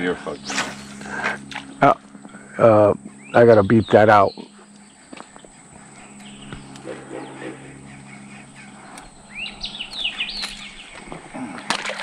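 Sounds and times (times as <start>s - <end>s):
bird chirping: 0.0s - 11.4s
steady low hum: 0.0s - 12.0s.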